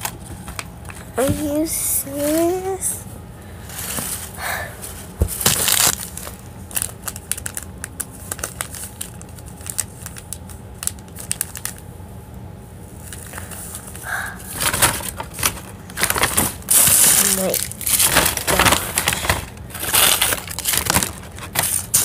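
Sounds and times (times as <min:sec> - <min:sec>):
candy wrappers crinkling: 0:00.0 - 0:02.9, 0:03.8 - 0:11.9, 0:13.0 - 0:22.0.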